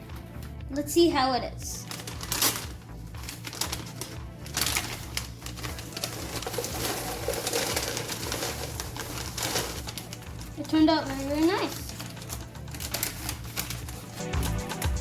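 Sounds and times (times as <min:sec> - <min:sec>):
background music: 0:00.0 - 0:15.0
paper bag rustling and crinkling: 0:01.8 - 0:15.0.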